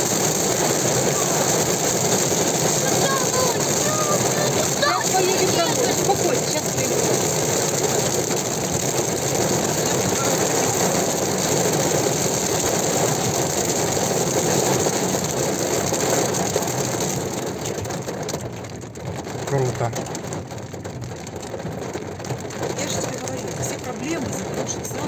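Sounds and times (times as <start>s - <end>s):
heavy rain on car roof: 0.0s - 25.0s.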